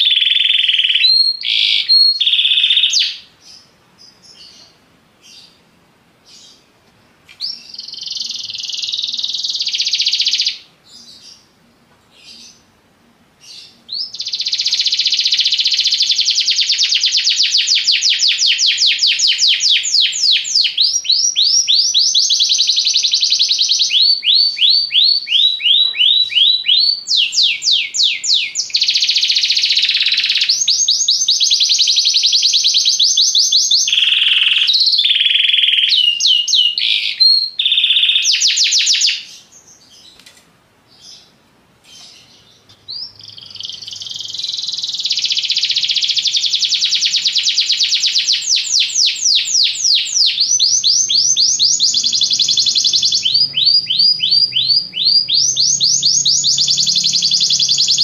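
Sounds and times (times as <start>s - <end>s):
canary singing trills: 0.0s - 5.6s, 7.4s - 12.7s, 13.4s - 40.2s, 40.9s - 58.0s.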